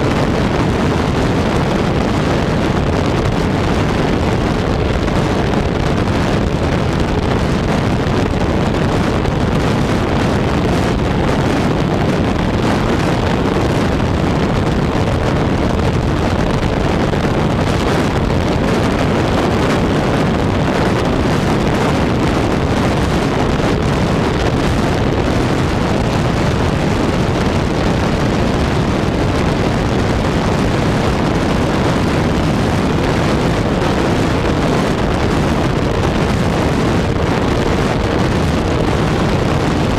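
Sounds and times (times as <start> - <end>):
propeller drone: 0.0 - 39.9
wind rush on microphone: 0.0 - 39.9.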